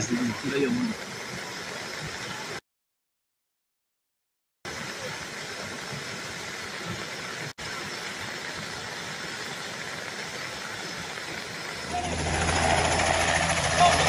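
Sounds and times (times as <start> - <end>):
flood water rushing: 0.0 - 2.6, 4.7 - 14.0.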